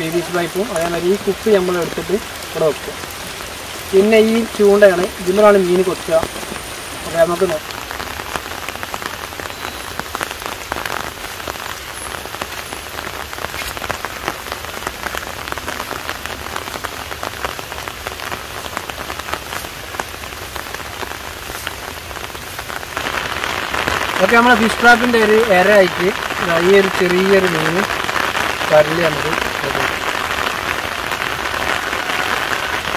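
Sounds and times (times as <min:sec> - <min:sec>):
rain pattering: 0:00.0 - 0:32.9.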